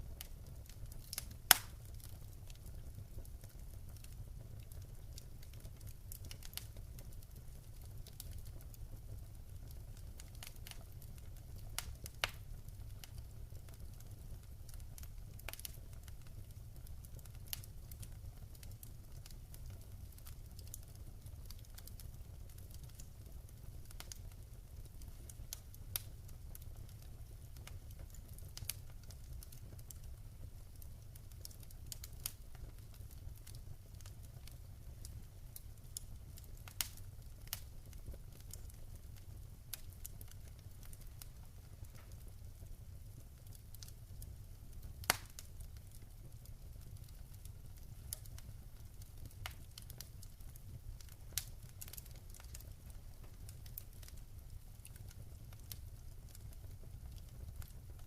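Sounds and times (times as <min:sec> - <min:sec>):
sharp pops and snaps from fire: 0:00.0 - 0:58.0
wood fire crackling: 0:00.0 - 0:58.0.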